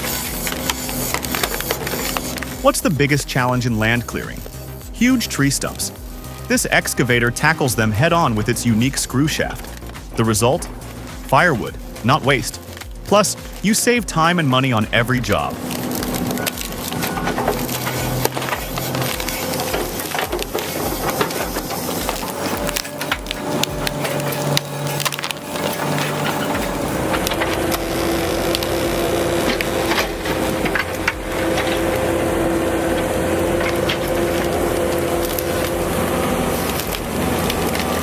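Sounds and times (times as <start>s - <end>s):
excavator engine and hydraulics: 0.0s - 38.0s.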